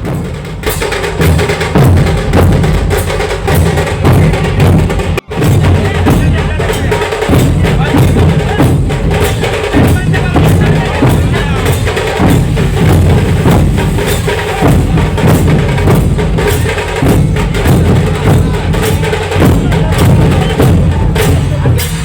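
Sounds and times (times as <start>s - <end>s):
barrel drums beating: 0.0s - 22.0s
sharp crackling drum strokes: 0.0s - 22.0s.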